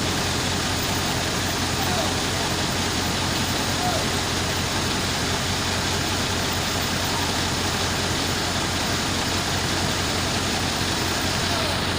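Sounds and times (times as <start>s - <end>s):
heavy vehicle engine running: 0.0s - 11.9s.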